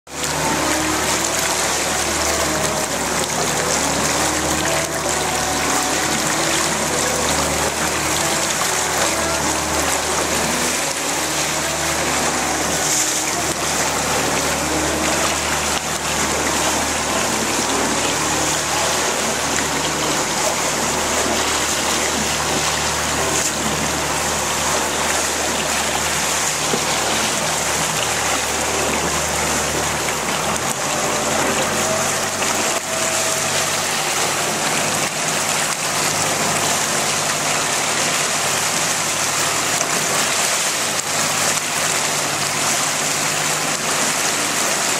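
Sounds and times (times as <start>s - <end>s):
boat wake splashing water: 0.0s - 44.9s
boat engine humming low: 0.1s - 44.9s.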